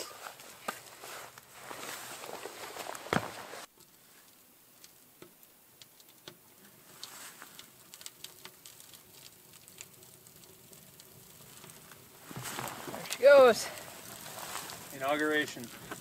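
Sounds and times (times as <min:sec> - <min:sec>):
twigs crackling in fire: 0:00.0 - 0:16.0.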